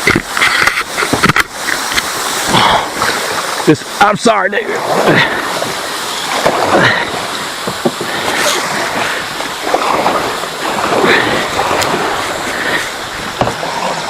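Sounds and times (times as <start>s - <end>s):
kayak paddle strokes splashing: 0.0s - 14.0s
rushing river water: 0.0s - 14.0s.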